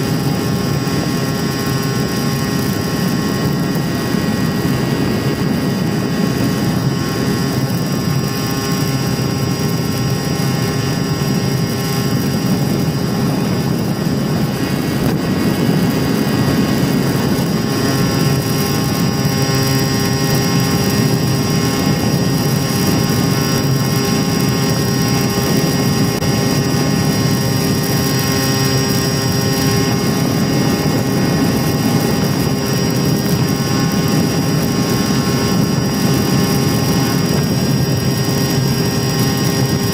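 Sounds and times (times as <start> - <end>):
air rushing over microphone: 0.0 - 39.9
high-pitched electric motor whine: 0.0 - 39.9.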